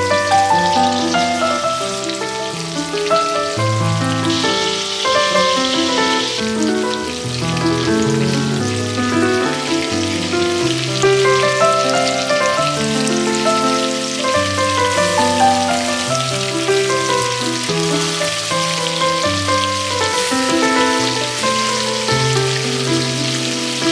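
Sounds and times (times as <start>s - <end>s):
background music with held notes: 0.0s - 23.9s
fish sizzling in hot oil: 0.0s - 23.9s.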